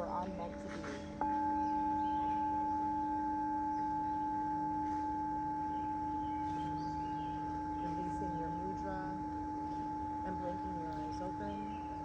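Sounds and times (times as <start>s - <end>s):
singing bowl ringing: 0.0s - 12.0s.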